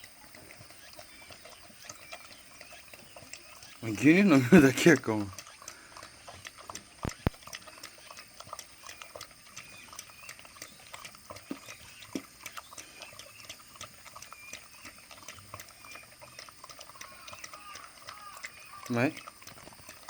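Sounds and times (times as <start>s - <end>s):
dog lapping and chewing food: 0.0s - 20.0s.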